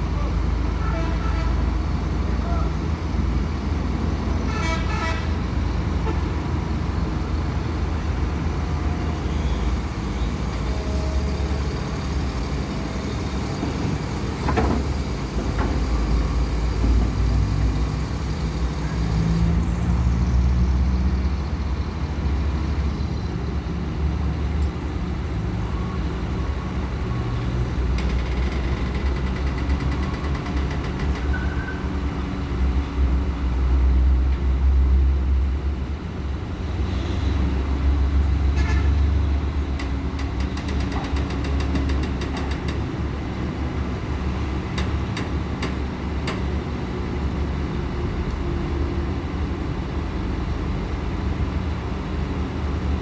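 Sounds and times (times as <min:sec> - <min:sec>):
excavator diesel engines rumbling: 0:00.0 - 0:53.0.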